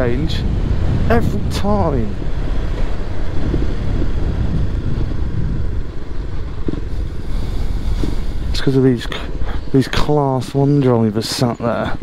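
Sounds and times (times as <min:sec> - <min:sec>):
wind noise on microphone: 0:00.0 - 0:10.7.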